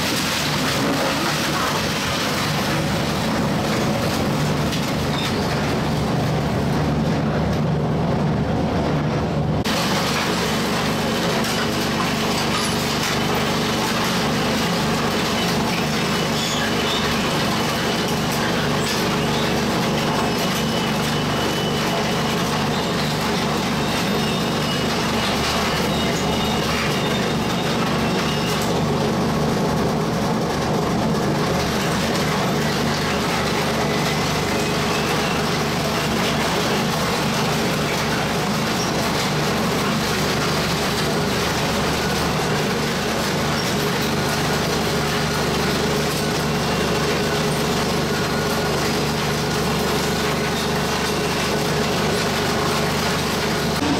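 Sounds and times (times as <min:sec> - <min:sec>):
blades crunching scrap metal: 0:00.0 - 0:07.9, 0:09.6 - 0:53.9
shredder drive humming: 0:09.6 - 0:53.9.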